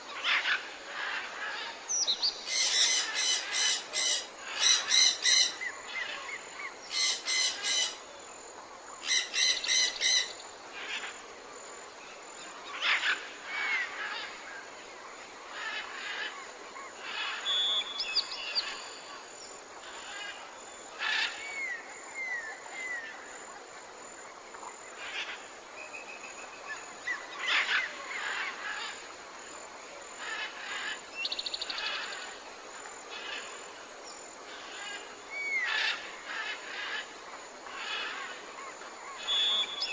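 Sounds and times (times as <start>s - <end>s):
jungle birds calling: 0.0s - 8.1s, 8.9s - 11.3s, 12.1s - 23.4s, 24.7s - 39.9s.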